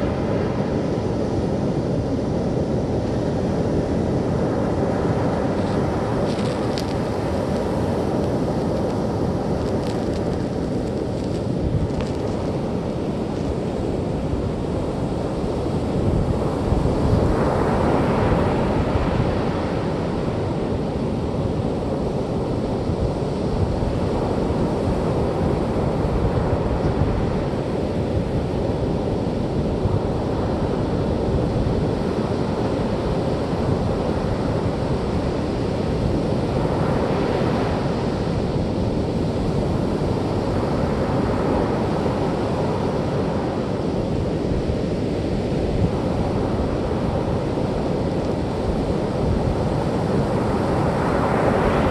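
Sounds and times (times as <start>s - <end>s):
surf washing on beach: 0.0s - 51.9s
wind rumbling on microphone: 0.0s - 51.9s.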